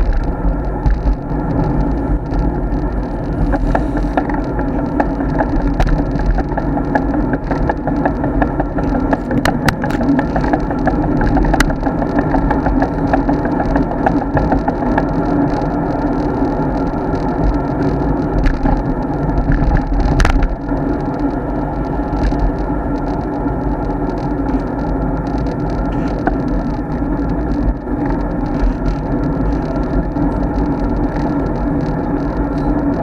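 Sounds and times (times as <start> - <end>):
wind and tyre noise: 0.0 - 33.0.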